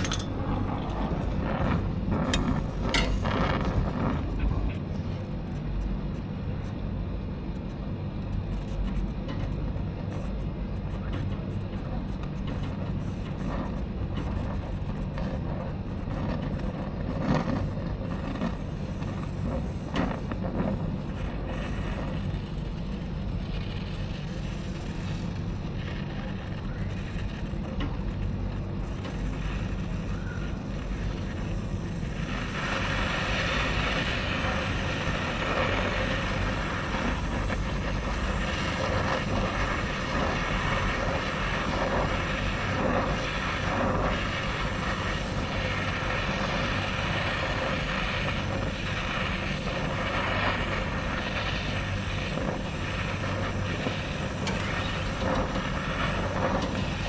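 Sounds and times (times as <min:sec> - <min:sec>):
torch flame hissing: 0:00.0 - 0:06.2, 0:08.2 - 0:57.0.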